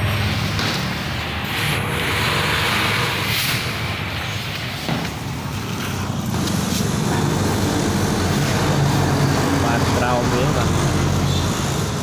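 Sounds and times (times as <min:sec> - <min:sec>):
motor vehicle running: 0:00.0 - 0:12.0.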